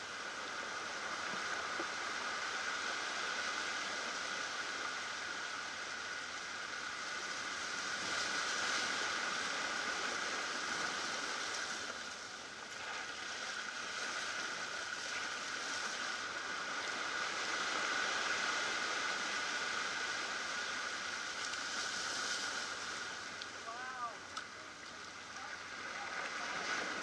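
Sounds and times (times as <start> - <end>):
surf washing over rocks: 0.0 - 27.0.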